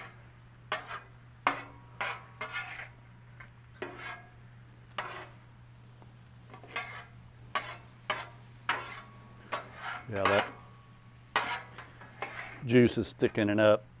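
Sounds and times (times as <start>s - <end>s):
metal spatulas scraping on griddle: 0.0s - 5.6s, 6.4s - 13.4s
food sizzling: 0.0s - 14.0s.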